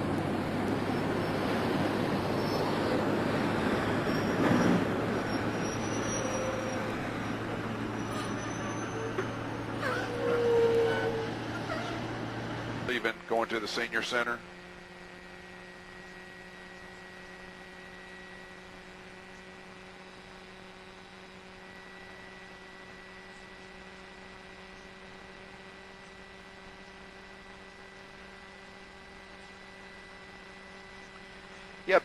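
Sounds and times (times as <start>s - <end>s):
electrical line hum: 0.0s - 32.0s
faint steady tones: 0.0s - 32.0s.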